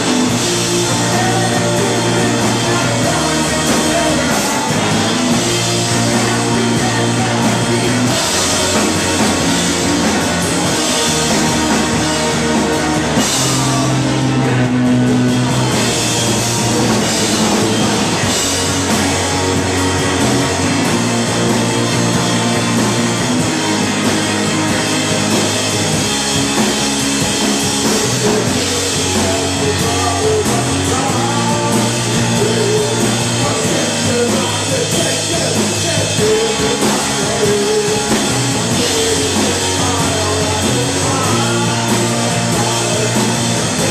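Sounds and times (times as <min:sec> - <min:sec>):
drum kit: 0:00.0 - 0:43.9
electric bass: 0:00.0 - 0:43.9
electric guitar: 0:00.0 - 0:43.9.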